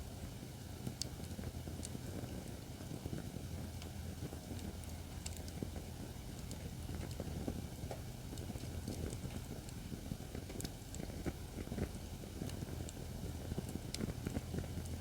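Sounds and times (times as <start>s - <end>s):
fire burning with crackles and pops: 0.0s - 15.0s.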